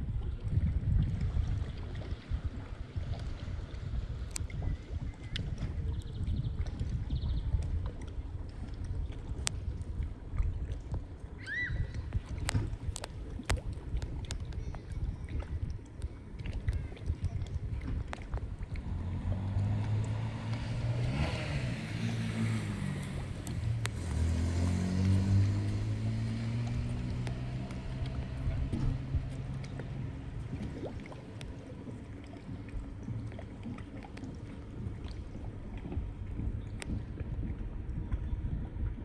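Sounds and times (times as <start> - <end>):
motorboat engine droning: 0.0 - 39.0
moving water: 0.0 - 39.0.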